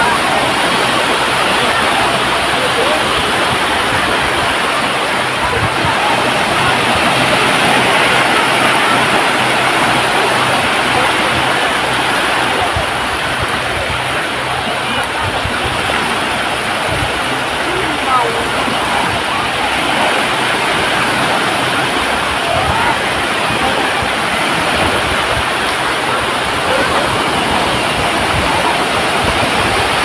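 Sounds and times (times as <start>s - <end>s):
waves washing on beach: 0.0s - 30.0s.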